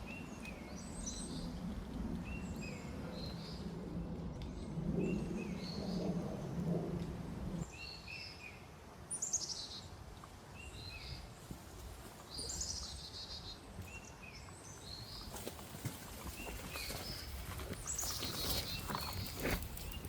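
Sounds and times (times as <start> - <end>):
songbirds chirping: 0.0 - 6.4, 7.6 - 20.0.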